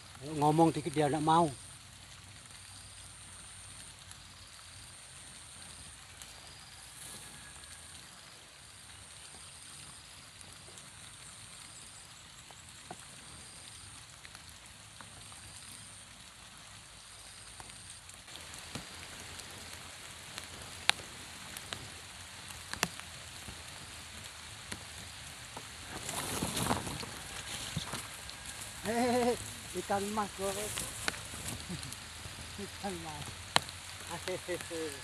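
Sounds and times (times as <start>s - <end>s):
light rain falling: 0.0s - 35.0s
rustle: 0.0s - 35.0s.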